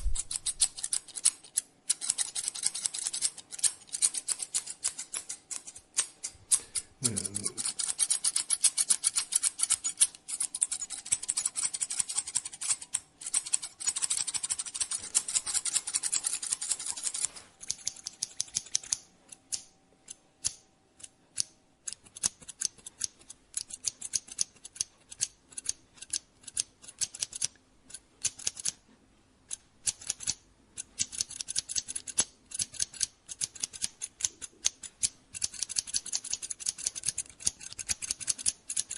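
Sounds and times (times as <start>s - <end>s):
scissors snipping hair: 0.0s - 28.8s, 29.5s - 38.9s.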